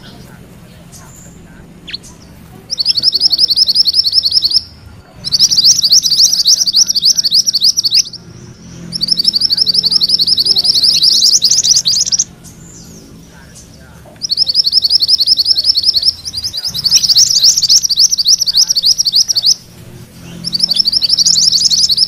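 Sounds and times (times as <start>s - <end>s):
songbird rolling trill: 0.8s - 13.2s, 14.2s - 22.0s.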